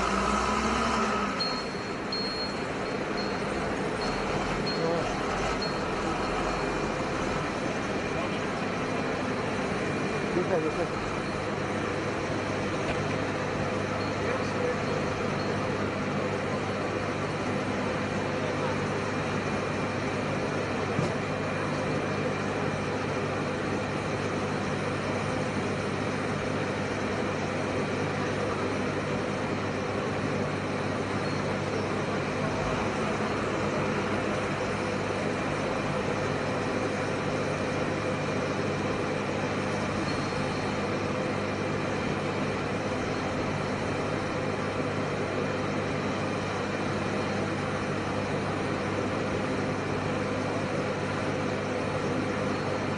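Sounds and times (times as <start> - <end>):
forklift engine drone: 0.0 - 52.9
machinery humming: 0.0 - 52.9.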